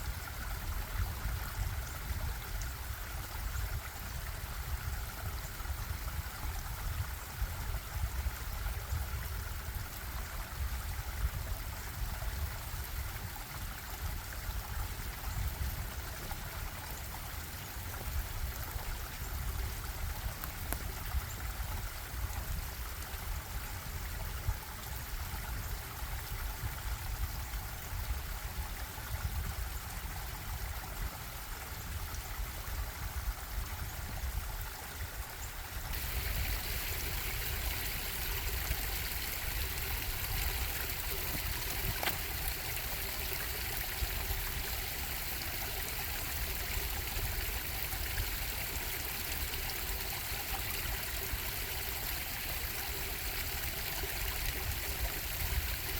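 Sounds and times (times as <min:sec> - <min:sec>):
stream water bubbling: 0:00.0 - 0:55.9.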